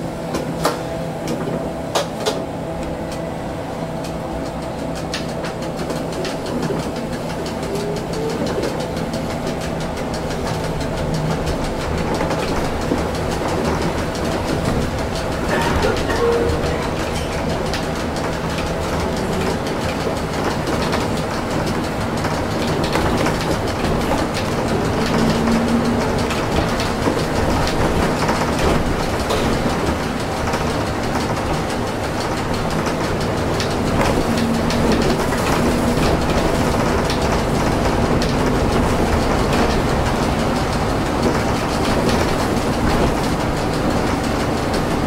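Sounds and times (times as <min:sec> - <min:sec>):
trolleybus hum and rattle: 0:00.0 - 0:45.0.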